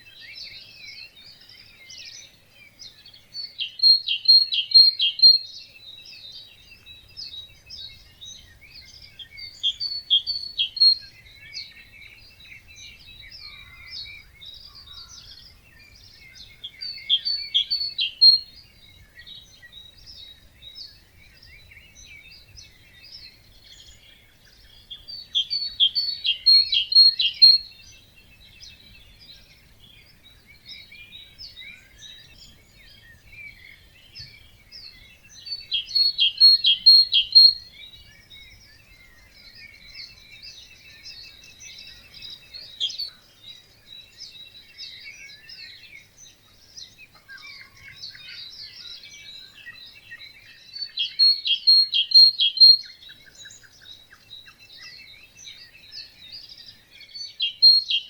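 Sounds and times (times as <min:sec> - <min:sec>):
bird singing loud high phrase: 0:00.0 - 0:58.0
songbirds chorus: 0:00.0 - 0:58.0.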